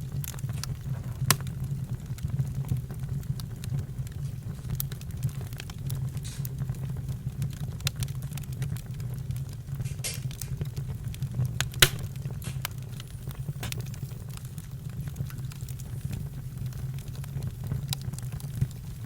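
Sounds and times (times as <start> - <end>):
campfire crackling: 0.0 - 19.0
fire pops and snaps: 0.0 - 19.0.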